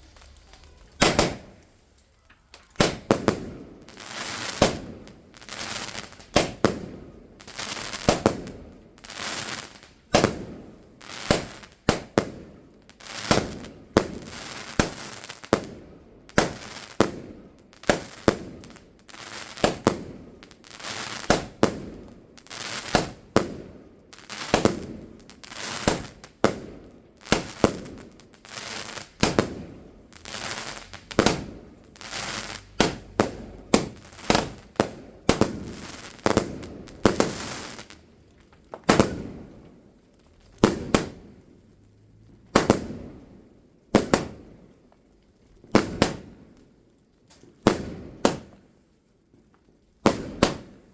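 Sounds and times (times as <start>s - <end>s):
fireworks bangs and crackle: 0.0s - 50.9s.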